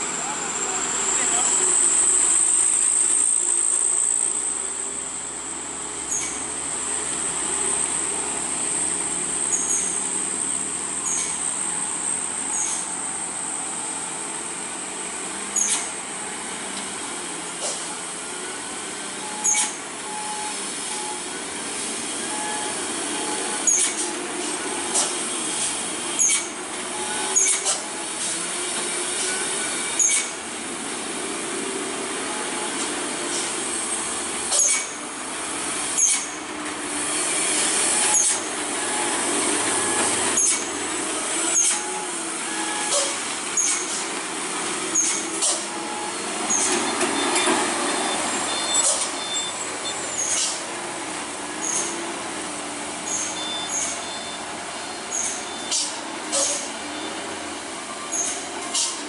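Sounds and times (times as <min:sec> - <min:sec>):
diesel truck engine drone: 0:00.0 - 0:59.0.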